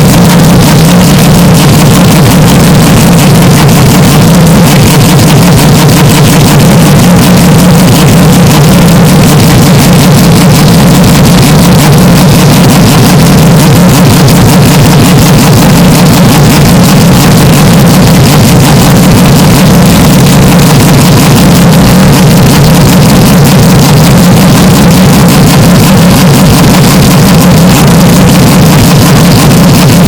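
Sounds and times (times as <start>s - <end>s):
distorted race car engine: 0.0s - 30.0s.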